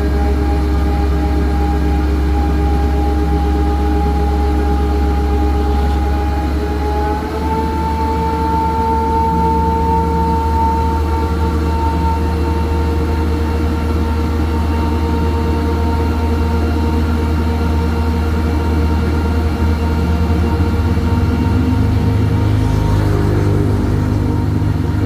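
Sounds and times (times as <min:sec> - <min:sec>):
heavy diesel engine droning: 0:00.0 - 0:25.0
steady whine: 0:00.0 - 0:25.0.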